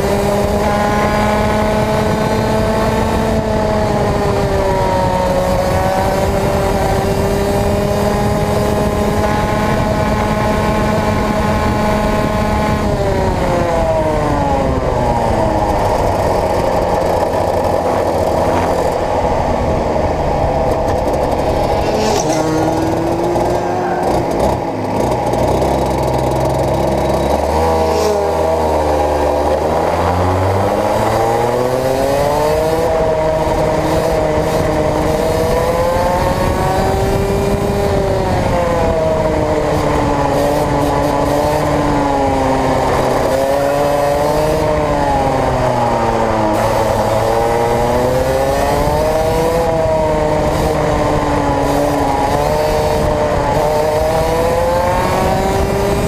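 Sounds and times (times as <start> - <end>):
kart engine at speed: 0.0 - 56.0.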